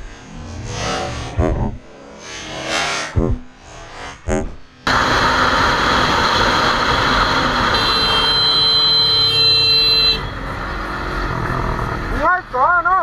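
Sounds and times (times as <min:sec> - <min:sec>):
motorcycle engine: 0:00.0 - 0:12.8.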